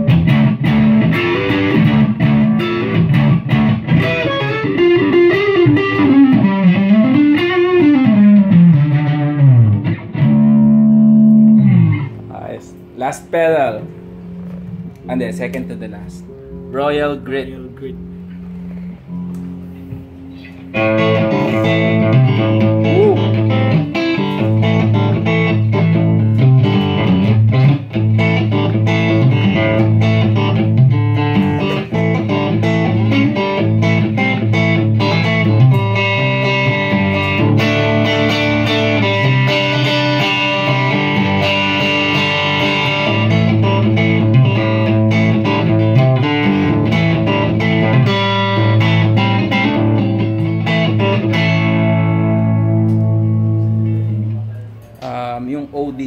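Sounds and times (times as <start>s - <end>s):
electric guitar chords and riffs: 0.0s - 55.2s.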